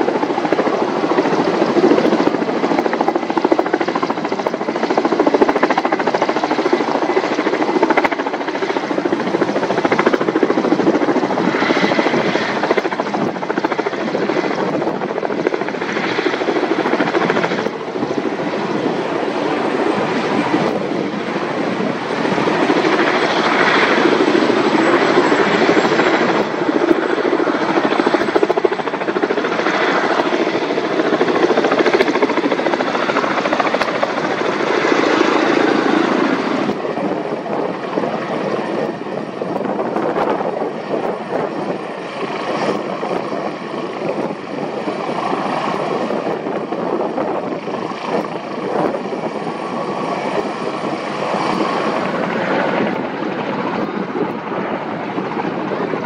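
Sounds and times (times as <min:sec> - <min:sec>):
helicopter hovering loudly: 0:00.0 - 0:56.0.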